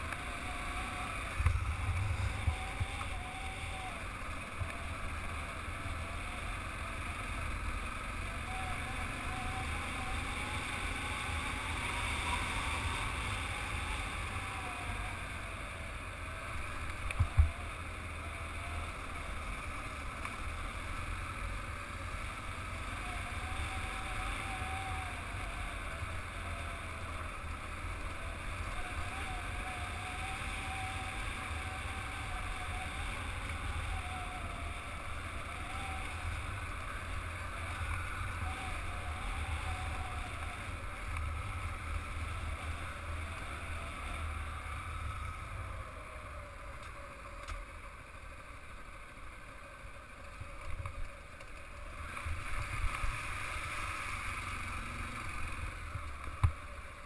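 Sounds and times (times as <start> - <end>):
motorcycle engine running: 0.0 - 57.0
wind rumble on microphone: 0.0 - 57.0.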